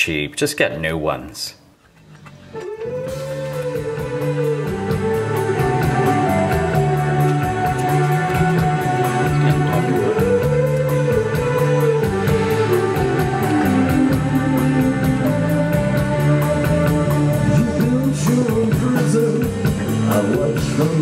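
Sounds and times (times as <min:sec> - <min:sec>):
rock music: 0:02.6 - 0:21.0.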